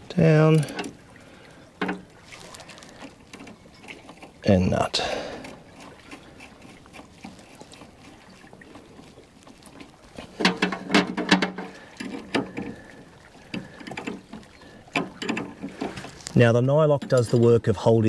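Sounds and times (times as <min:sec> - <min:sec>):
faint water lapping: 0:00.0 - 0:18.0.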